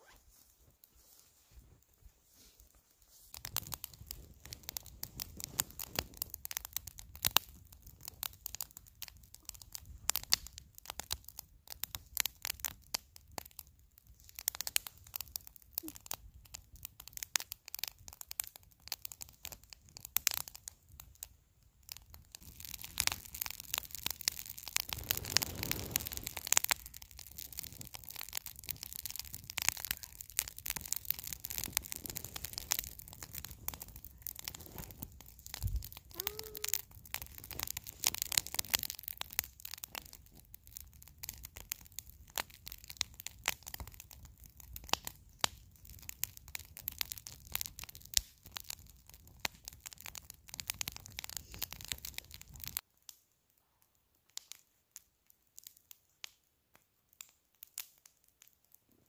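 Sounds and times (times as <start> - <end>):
campfire crackling and popping: 2.7 - 59.0.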